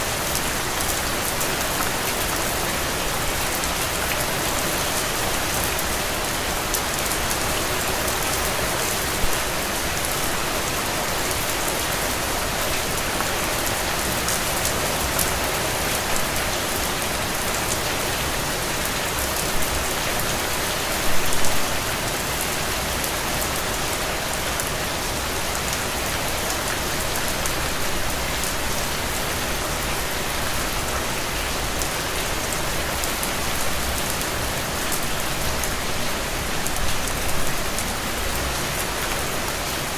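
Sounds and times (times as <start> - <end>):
heavy rain splashing into puddles: 0.0 - 39.9.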